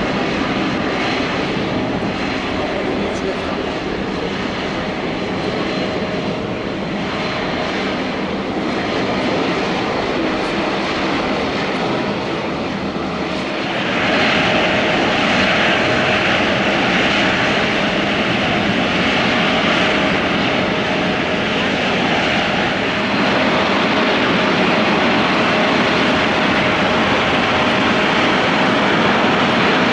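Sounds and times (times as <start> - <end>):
airliner engine noise: 0.0 - 29.9.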